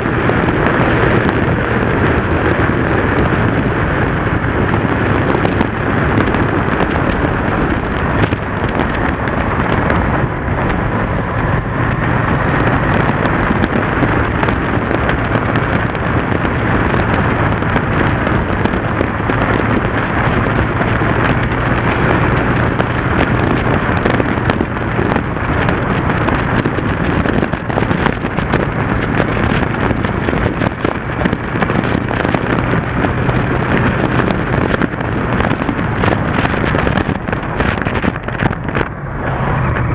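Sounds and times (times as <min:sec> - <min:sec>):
motorcycle engine cruising: 0:00.0 - 0:39.9
wind buffeting on microphone: 0:00.0 - 0:39.9.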